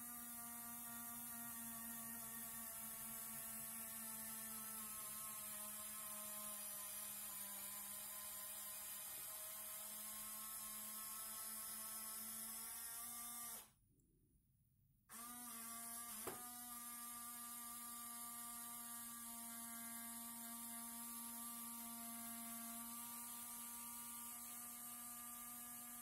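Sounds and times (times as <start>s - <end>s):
small electric motor humming: 0.0s - 13.8s, 15.1s - 26.0s.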